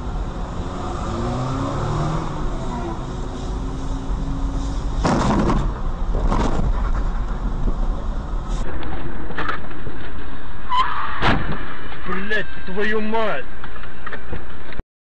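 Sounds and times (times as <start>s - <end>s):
car engine and road rumble: 0.0s - 14.8s.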